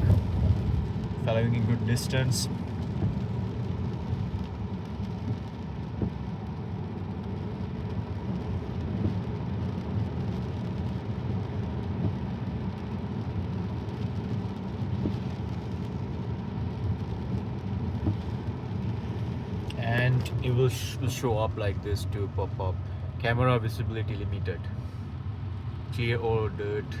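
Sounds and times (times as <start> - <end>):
tyre noise on wet road: 0.0 - 27.0.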